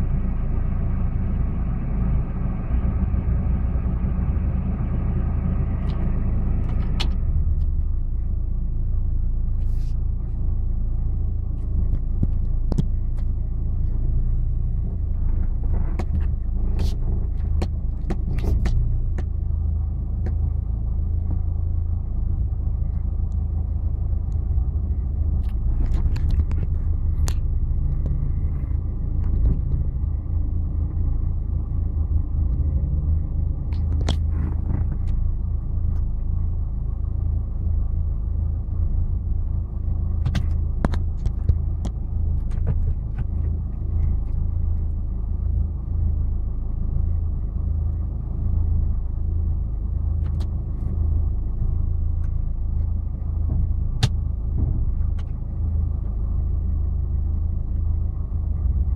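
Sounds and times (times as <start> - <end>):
off-road vehicle rumble: 0.0 - 58.9.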